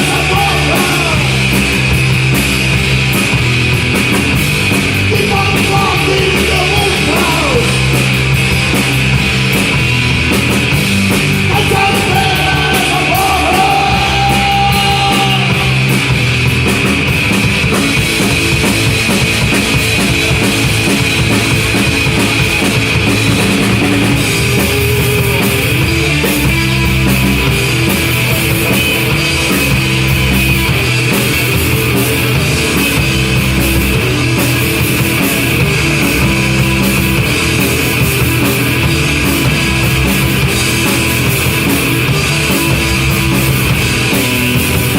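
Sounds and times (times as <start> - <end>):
bass guitar: 0.0 - 44.9
drum kit: 0.0 - 44.9
electric guitars: 0.0 - 44.9.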